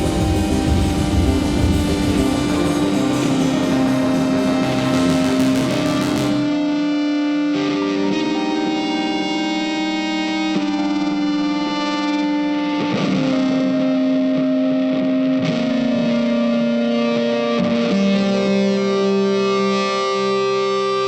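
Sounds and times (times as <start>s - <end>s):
distorted guitar notes: 0.0s - 21.0s.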